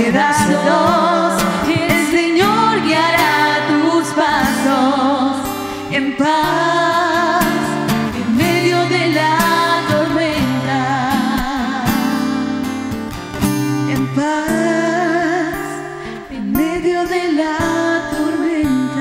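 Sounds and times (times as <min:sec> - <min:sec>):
women singing: 0:00.0 - 0:12.4, 0:13.8 - 0:19.0
acoustic guitar strumming: 0:00.0 - 0:19.0.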